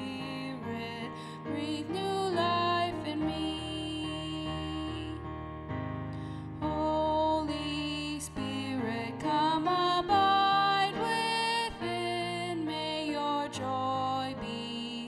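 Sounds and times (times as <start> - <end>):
woman singing a hymn: 0.0 - 5.4, 6.6 - 15.0
keyboard: 0.0 - 15.0.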